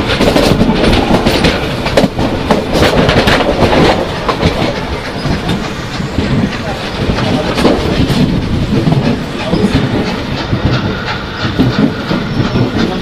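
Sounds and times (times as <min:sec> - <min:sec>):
train rumbling along track: 0:00.0 - 0:13.0
wheels clattering over rails: 0:00.0 - 0:13.0.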